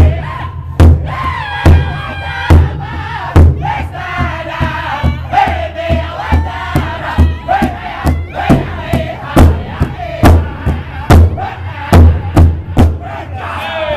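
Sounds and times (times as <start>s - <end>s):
high-pitched voices singing in unison: 0.0s - 13.9s
large hide drum strokes: 0.8s - 13.1s.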